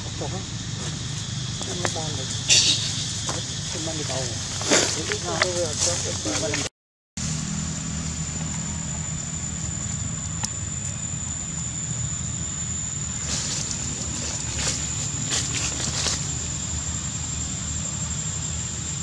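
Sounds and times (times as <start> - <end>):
steady low rumble: 0.0 - 19.0
thin high-pitched whine: 0.0 - 19.0.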